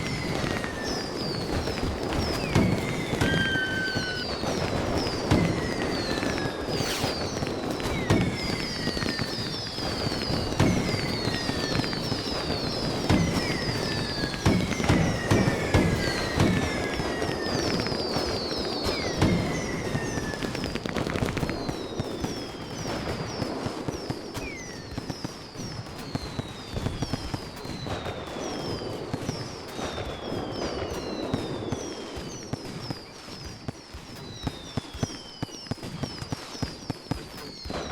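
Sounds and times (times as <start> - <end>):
fireworks popping and banging: 0.0 - 37.9
fireworks whistles falling in pitch: 0.0 - 37.9.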